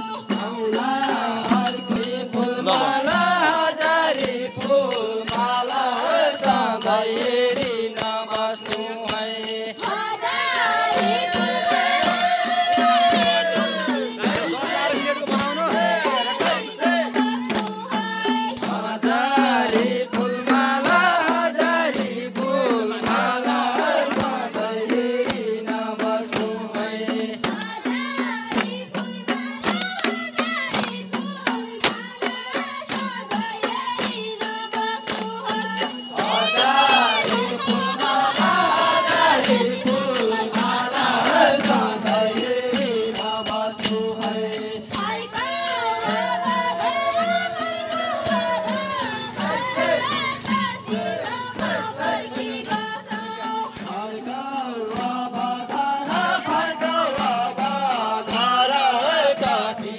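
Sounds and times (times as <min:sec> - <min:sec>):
group singing folk song: 0:00.0 - 0:59.9
steady percussive beat: 0:00.0 - 0:59.9.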